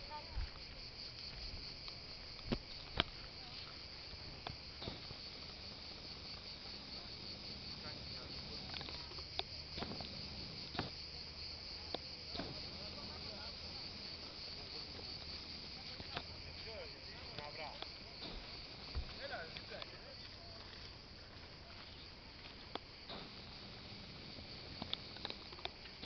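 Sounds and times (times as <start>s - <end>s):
cicadas singing: 0.0s - 26.0s.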